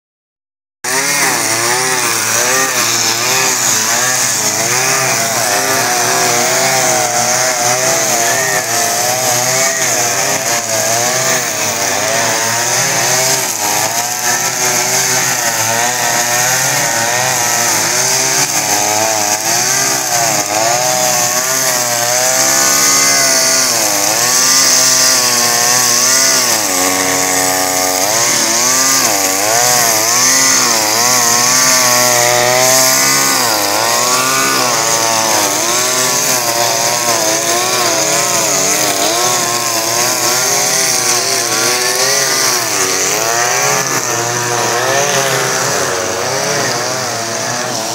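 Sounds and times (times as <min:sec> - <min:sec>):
brushcutter engine cutting grass: 0:00.9 - 0:47.9.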